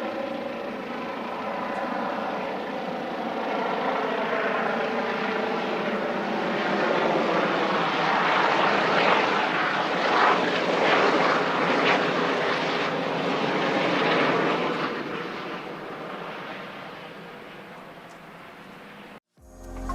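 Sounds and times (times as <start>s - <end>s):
helicopter rotor and turbine: 0.0s - 19.2s.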